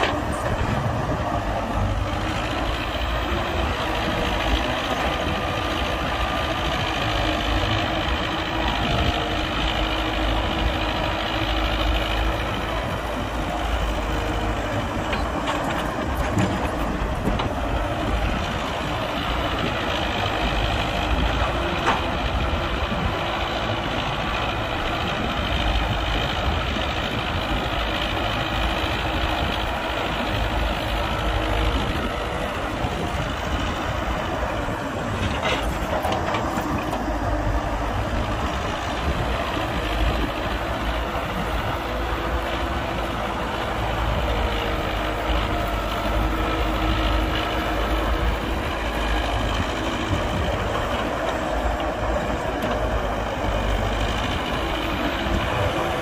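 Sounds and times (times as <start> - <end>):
heavy diesel engines rumbling: 0.0 - 56.0.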